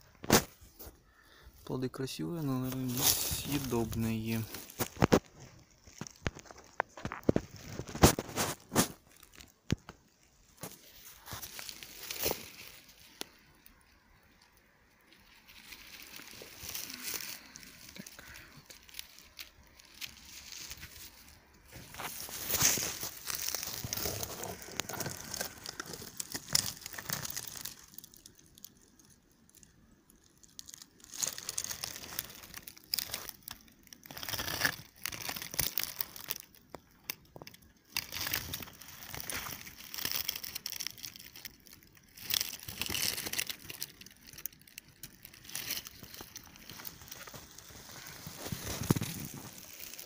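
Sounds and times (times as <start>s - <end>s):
rustling dry undergrowth: 0.0s - 50.0s.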